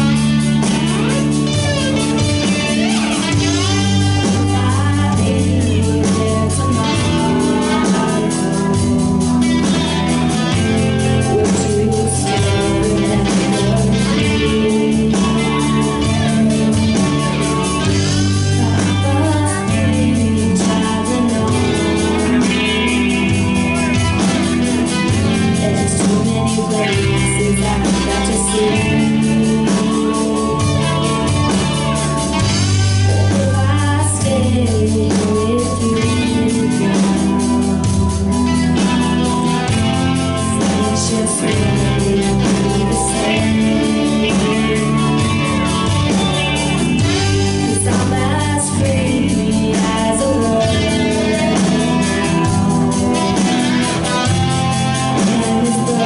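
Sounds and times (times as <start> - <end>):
live rock band: 0.0 - 56.0
person singing: 0.0 - 56.0.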